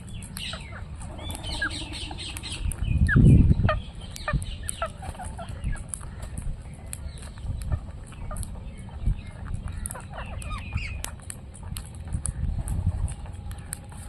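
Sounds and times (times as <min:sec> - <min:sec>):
low rumble: 0:00.0 - 0:14.0
parrots chirping and squawking: 0:00.0 - 0:14.0.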